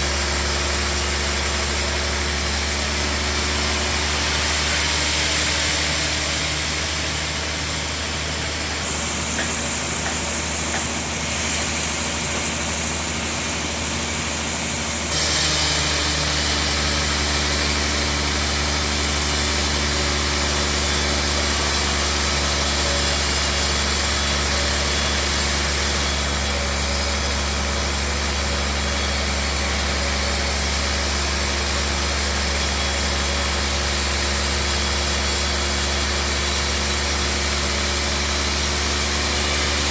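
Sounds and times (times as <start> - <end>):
bandsaw machinery humming: 0.0 - 39.9.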